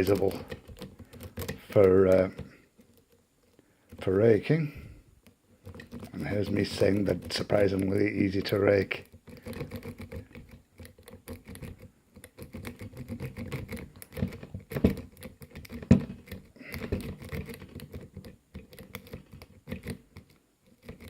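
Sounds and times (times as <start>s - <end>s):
lock pick clicking and scraping: 0.0s - 4.4s, 5.2s - 21.0s.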